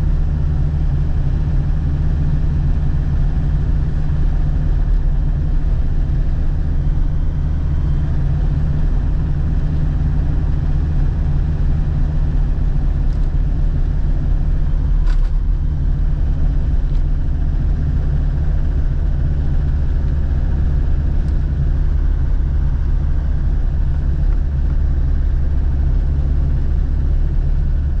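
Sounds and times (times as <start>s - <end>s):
diesel engine deep rumble: 0.0s - 28.0s.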